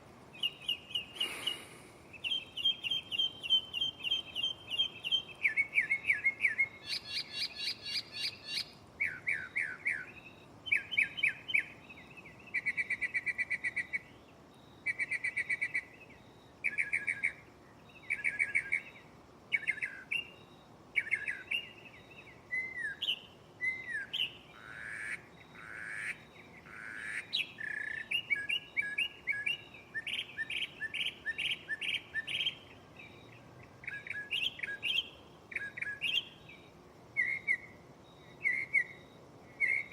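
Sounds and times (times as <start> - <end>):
mockingbird singing: 0.3 - 39.9.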